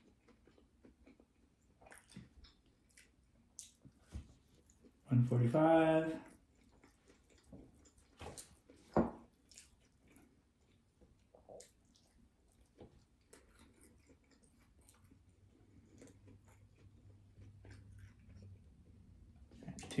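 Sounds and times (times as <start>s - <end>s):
chewing and mouth noises: 0.0s - 5.1s, 6.2s - 20.0s.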